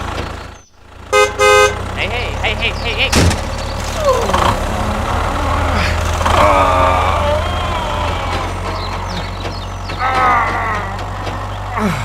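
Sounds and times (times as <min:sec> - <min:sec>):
engine idling with low rumble: 0:00.0 - 0:12.0.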